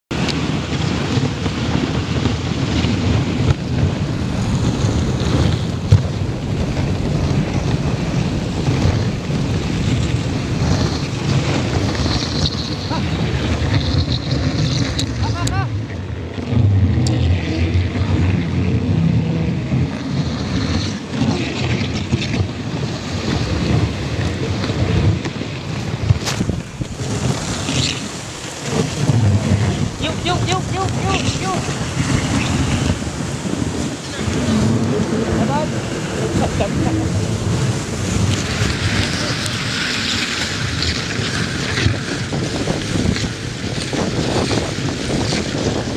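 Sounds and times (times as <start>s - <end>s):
sled runners on snow: 0.1s - 15.6s, 19.6s - 45.9s
wind buffeting microphone: 0.1s - 45.9s.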